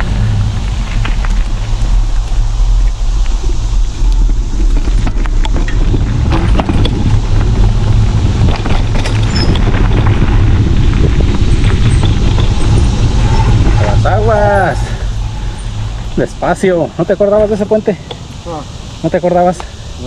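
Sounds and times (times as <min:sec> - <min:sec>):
bicycle rattles and knocks: 0:00.0 - 0:18.4
wind rushing over microphone: 0:00.0 - 0:20.0.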